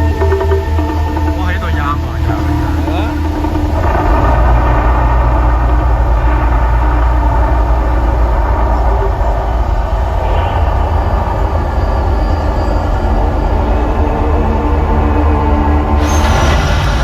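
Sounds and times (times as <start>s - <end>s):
deep rumble: 0.0s - 17.0s
rushing roar: 0.0s - 17.0s.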